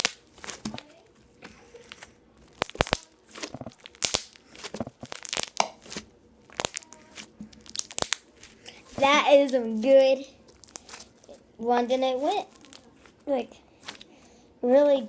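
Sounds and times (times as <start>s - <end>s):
slime crackling and popping: 0.0s - 9.7s, 10.4s - 13.2s.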